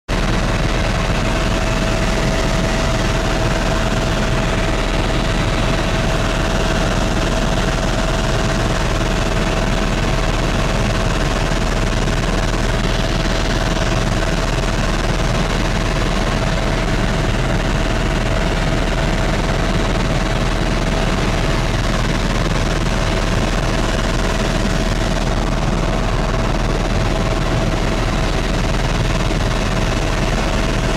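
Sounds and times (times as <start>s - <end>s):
helicopter engine and rotor drone: 0.1s - 30.9s
steady whining tone: 0.1s - 30.9s.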